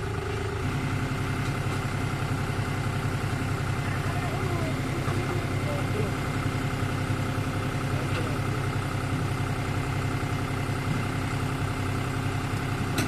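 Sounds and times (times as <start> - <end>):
heavy diesel engine idling: 0.0 - 13.0.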